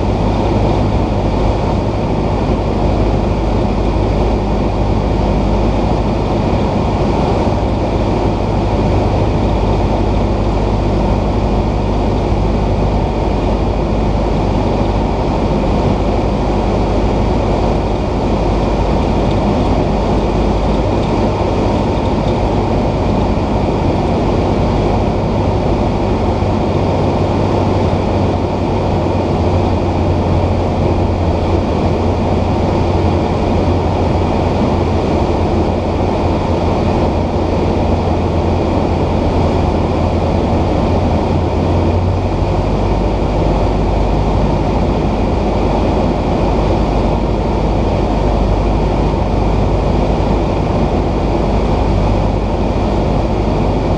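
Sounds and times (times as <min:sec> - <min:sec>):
propeller plane engine droning: 0:00.0 - 0:53.9
rushing airflow: 0:00.0 - 0:53.9.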